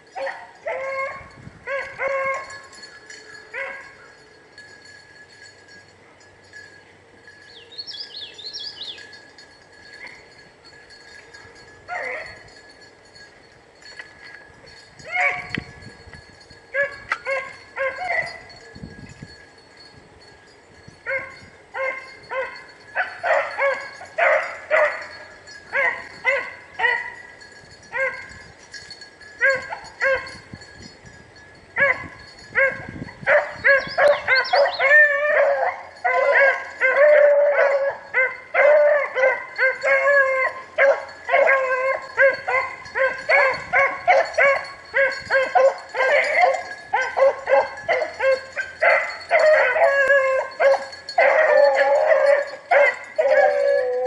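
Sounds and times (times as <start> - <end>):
hounds baying: 0.0 - 4.7, 7.6 - 13.2, 14.2 - 15.7, 16.7 - 18.7, 21.0 - 30.6, 31.8 - 54.0.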